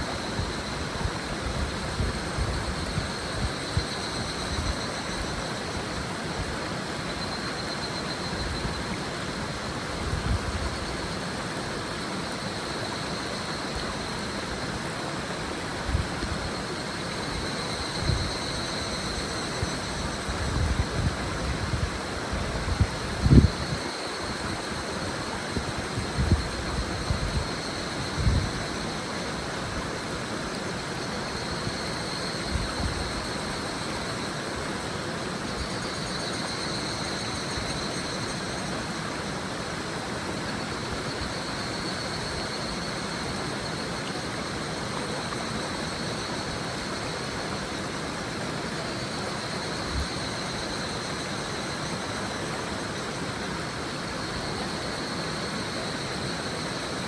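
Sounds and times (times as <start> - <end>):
cicadas trilling: 0.0 - 57.0
shallow river rushing: 0.0 - 57.0.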